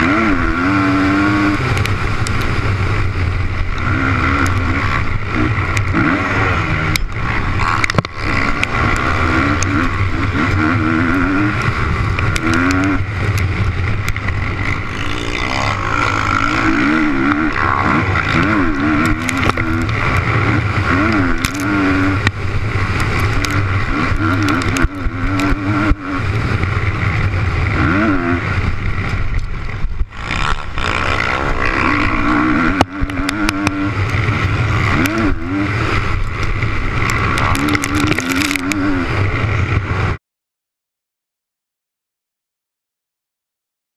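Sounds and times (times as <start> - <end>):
motocross bike engine revving: 0.0 - 40.2.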